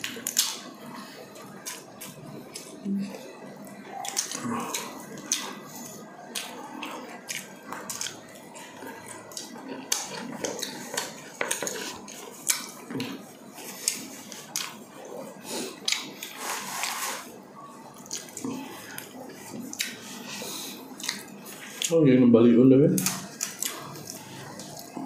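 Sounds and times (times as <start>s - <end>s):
chewing and mouth clicks: 0.0s - 17.3s, 17.9s - 21.9s, 23.0s - 25.0s.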